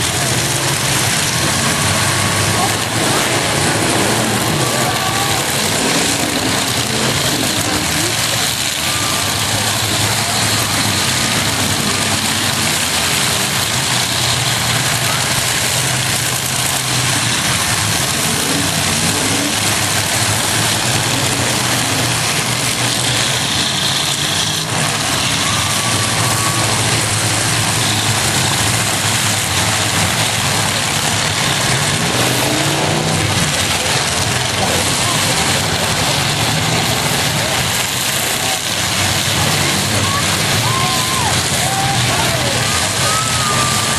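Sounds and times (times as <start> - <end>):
truck engines revving: 0.0 - 43.9.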